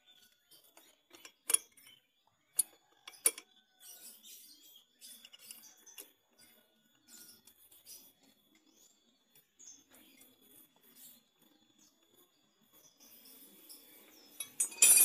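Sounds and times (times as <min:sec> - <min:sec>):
small ticks and rustling: 0:00.0 - 0:14.6.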